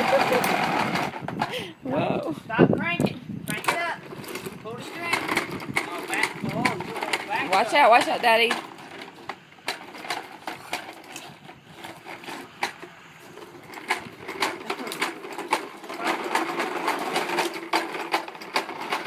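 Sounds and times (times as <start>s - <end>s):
toy lawn mower rattling: 0.0s - 1.7s, 3.5s - 19.0s.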